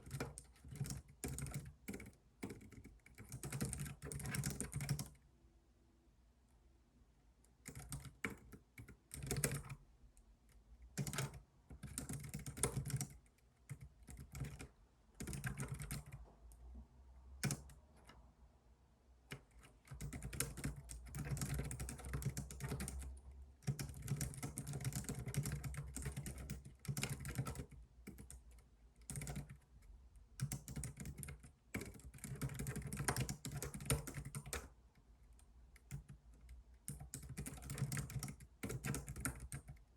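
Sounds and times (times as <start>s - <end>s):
computer keyboard typing: 0.0s - 5.2s, 7.6s - 9.8s, 10.8s - 16.2s, 17.4s - 18.2s, 19.3s - 39.9s.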